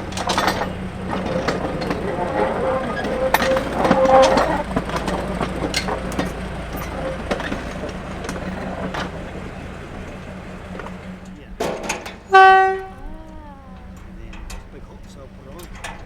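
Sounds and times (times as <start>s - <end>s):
diesel locomotive running: 0.0s - 16.0s
metallic clanks and knocks: 0.0s - 16.0s.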